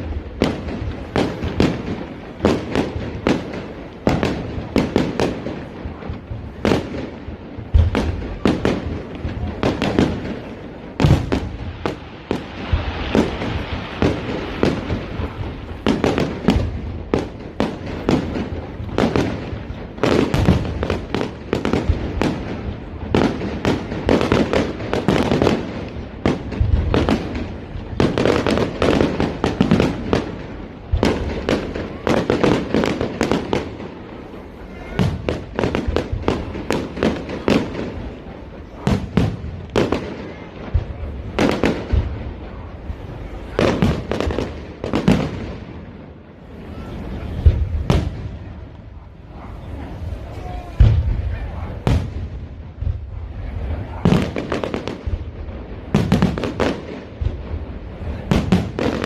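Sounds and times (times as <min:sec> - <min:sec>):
fireworks bangs and booms: 0:00.0 - 0:59.0
fireworks crackling: 0:00.0 - 0:59.0.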